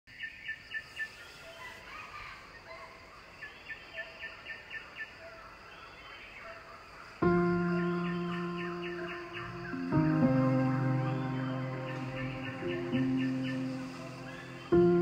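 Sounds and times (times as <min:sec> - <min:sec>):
faint outdoor background: 0:00.1 - 0:15.0.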